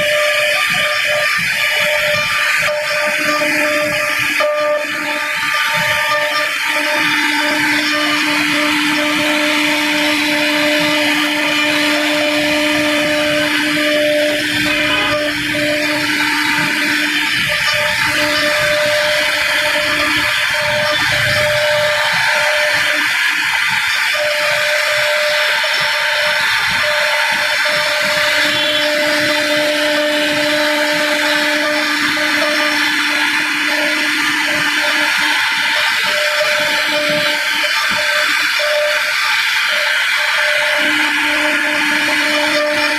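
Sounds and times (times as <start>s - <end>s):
bit cutting wood: 0.0s - 42.9s
router spindle whining: 0.0s - 42.9s.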